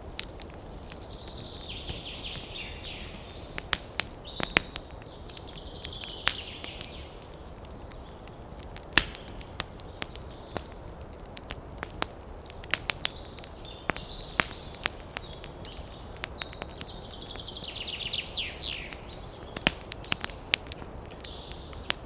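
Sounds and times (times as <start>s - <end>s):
campfire crackling and popping: 0.0s - 22.0s
birds calling: 0.1s - 12.0s, 12.8s - 22.0s.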